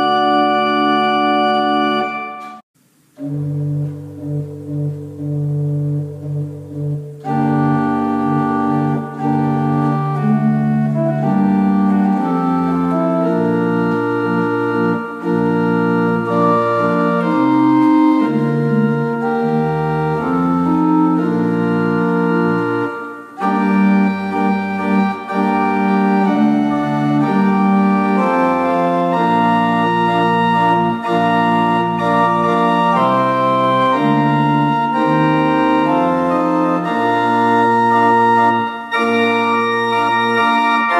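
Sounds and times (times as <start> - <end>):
pipe organ playing chords: 0.0 - 40.9.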